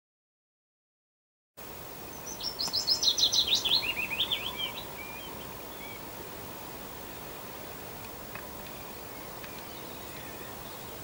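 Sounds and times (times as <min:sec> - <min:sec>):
steady outdoor hiss: 0:01.6 - 0:11.0
songbird singing: 0:01.8 - 0:11.0.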